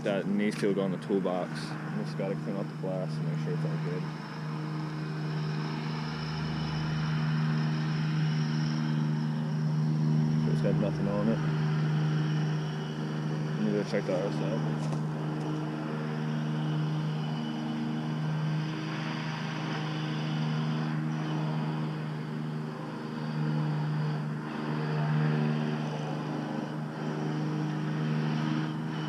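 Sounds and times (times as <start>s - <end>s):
machine drone: 0.0s - 29.0s.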